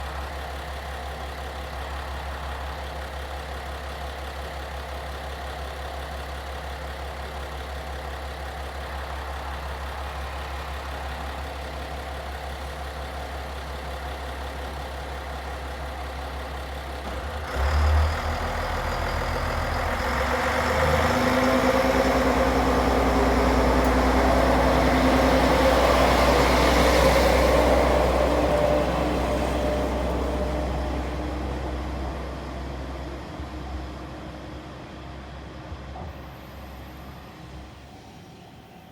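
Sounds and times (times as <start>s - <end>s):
diesel railcar engine: 0.0s - 38.9s.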